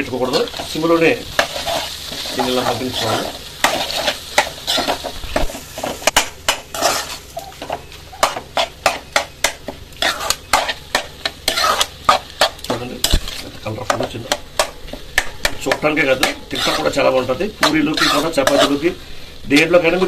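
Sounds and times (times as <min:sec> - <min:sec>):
potatoes sizzling in oil: 0:00.0 - 0:20.0
spoon scraping metal pan: 0:00.2 - 0:19.8.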